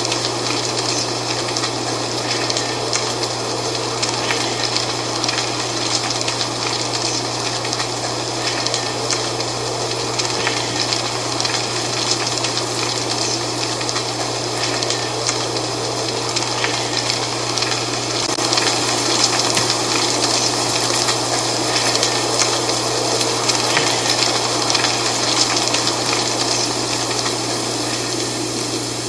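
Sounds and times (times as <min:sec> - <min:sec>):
dry leaves rustling in wind: 0:00.0 - 0:29.0
steady low hum: 0:00.0 - 0:29.0.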